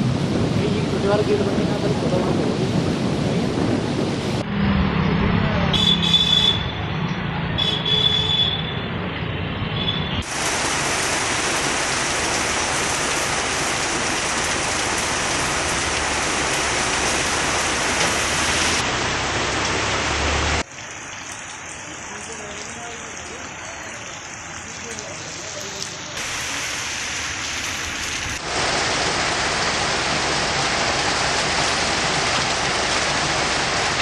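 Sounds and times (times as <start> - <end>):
heavy rain pouring: 0.0 - 6.5, 10.2 - 34.0
water and street noise: 0.0 - 34.0.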